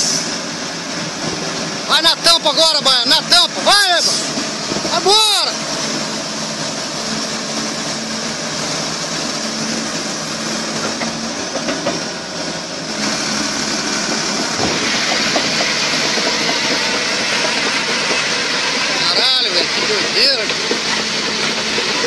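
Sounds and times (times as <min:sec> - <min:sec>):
excavator diesel engine working hard: 0:00.0 - 0:22.0
steel tracks clanking: 0:00.0 - 0:22.0.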